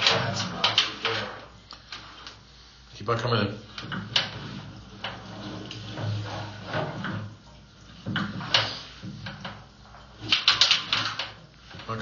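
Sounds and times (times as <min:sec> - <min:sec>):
cable knocks and rattles: 0:00.0 - 0:02.1, 0:03.7 - 0:12.0.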